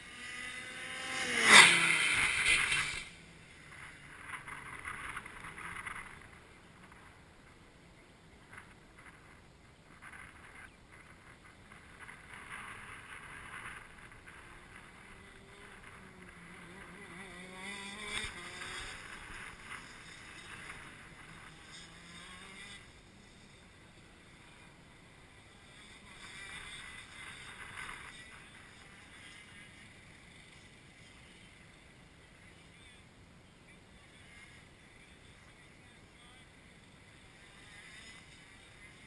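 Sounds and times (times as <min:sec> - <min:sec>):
kart engine passing by: 0:00.0 - 0:07.2, 0:10.0 - 0:33.1, 0:33.8 - 0:39.0
distant karts on track: 0:00.0 - 0:39.0.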